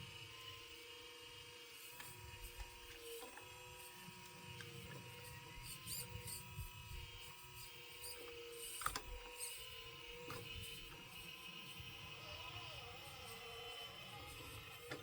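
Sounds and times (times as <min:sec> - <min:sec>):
small motors whining: 0:00.0 - 0:15.0.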